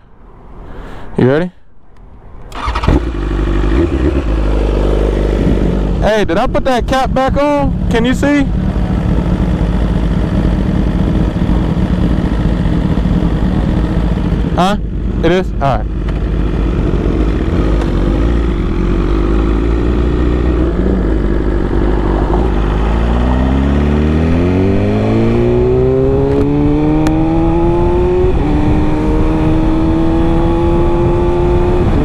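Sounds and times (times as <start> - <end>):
motorcycle engine accelerating: 2.5 - 32.0.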